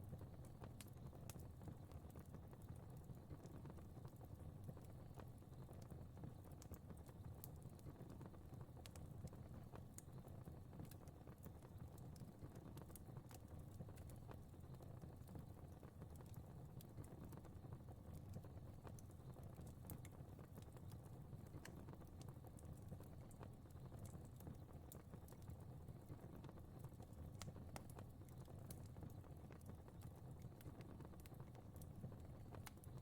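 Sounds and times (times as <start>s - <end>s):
fire crackling: 0.0s - 33.0s
low rumble of burning: 0.0s - 33.0s.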